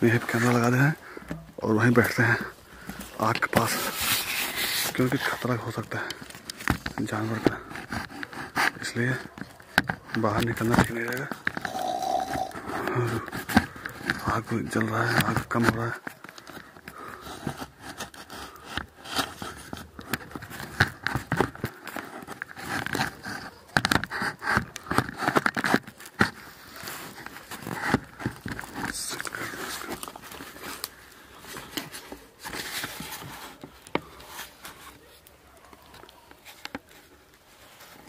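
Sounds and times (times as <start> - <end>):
campfire crackling: 0.0 - 24.9, 25.9 - 38.0.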